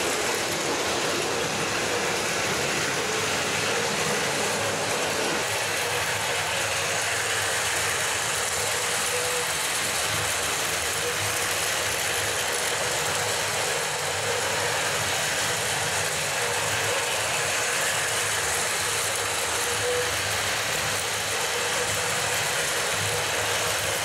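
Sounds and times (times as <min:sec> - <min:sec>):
toy train motors whirring: 0:00.0 - 0:24.0.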